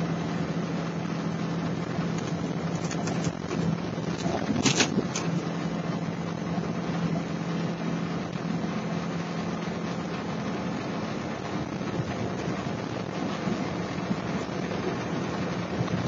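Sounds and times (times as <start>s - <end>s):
engine drone and road noise: 0.0s - 16.0s.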